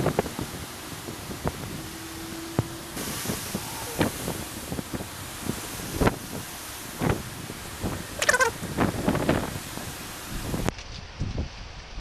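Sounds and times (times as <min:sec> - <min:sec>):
wind gusting across microphone: 0:00.0 - 0:12.0.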